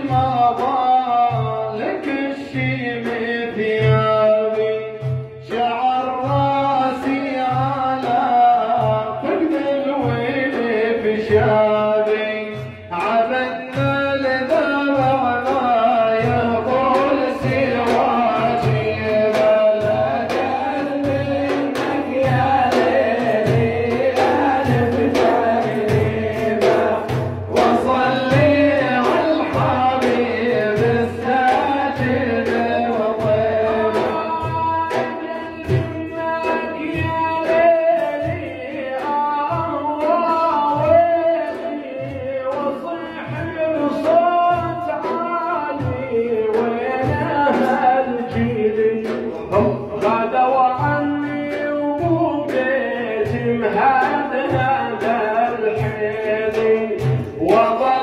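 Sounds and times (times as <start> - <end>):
frame drums beating: 0.0 - 58.0
men singing devotional song: 0.0 - 58.0.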